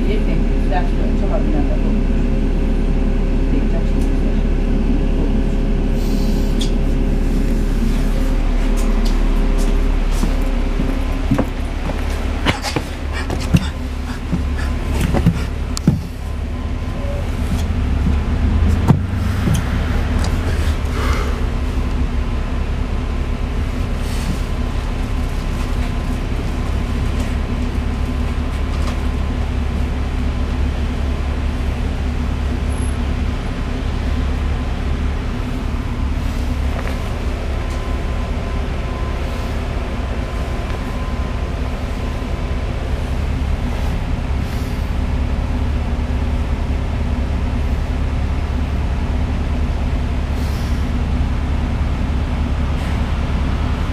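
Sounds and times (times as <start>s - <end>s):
bus engine drone: 0.0s - 53.9s.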